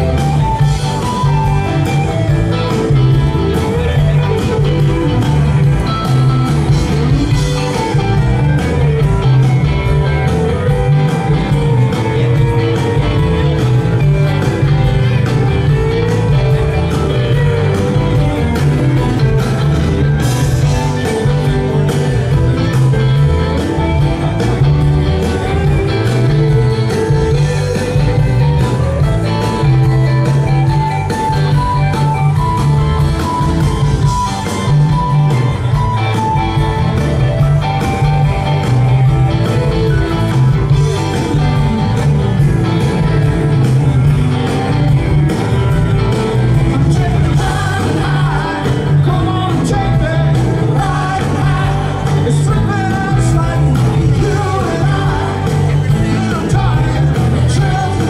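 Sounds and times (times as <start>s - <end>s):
drum kit: 0.0s - 58.0s
electric bass: 0.0s - 58.0s
electric guitars: 0.0s - 58.0s
keyboards: 0.0s - 58.0s.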